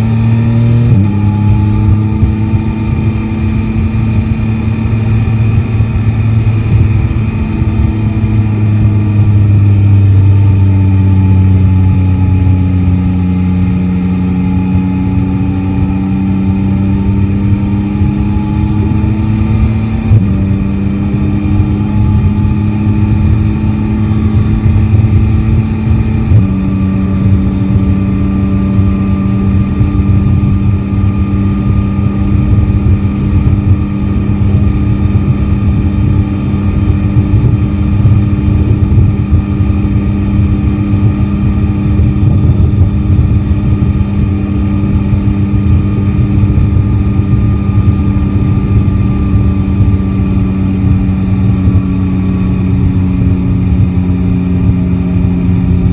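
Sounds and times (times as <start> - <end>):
road rumble: 0.0 - 55.9
wind: 0.0 - 55.9.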